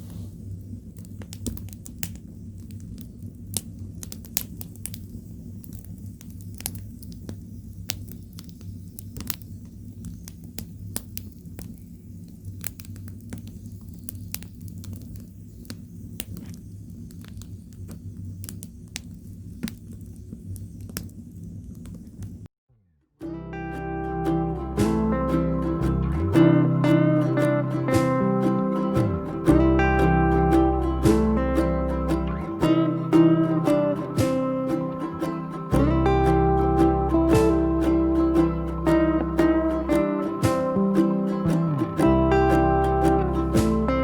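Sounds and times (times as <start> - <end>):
firewood crackling and popping: 0.0 - 22.5, 24.4 - 44.0
steady low hum: 0.0 - 22.5, 23.2 - 44.0.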